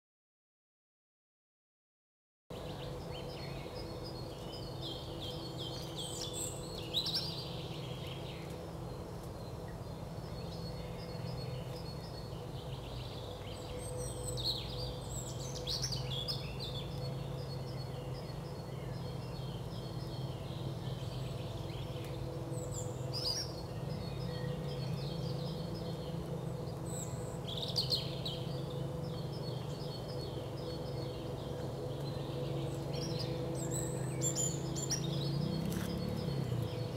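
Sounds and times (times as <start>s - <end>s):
songbirds trilling: 2.5s - 36.9s
steady low hum: 2.5s - 36.9s.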